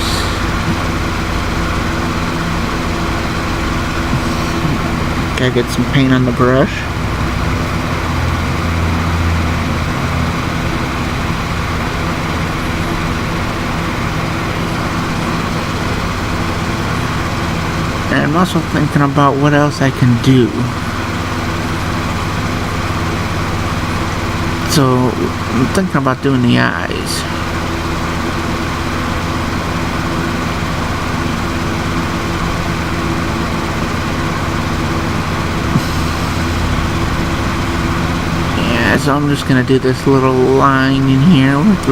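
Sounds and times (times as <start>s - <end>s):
lawnmower engine running: 0.0s - 41.9s.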